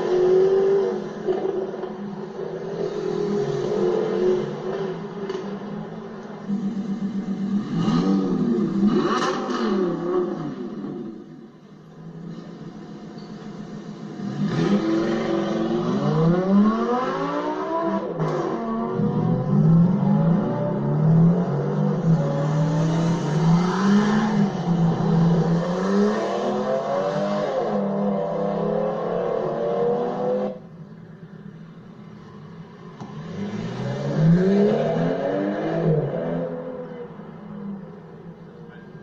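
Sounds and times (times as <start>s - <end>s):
car accelerating: 0.0s - 30.7s, 33.0s - 37.8s
car engines revving: 0.0s - 39.0s.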